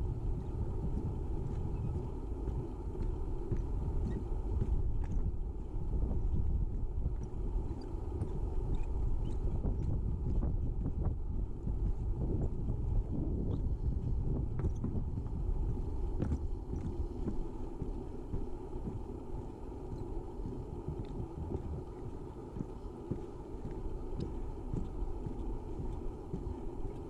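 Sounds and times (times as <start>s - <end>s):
wind rumbling on microphone: 0.0s - 27.0s
footsteps walking: 0.2s - 27.0s.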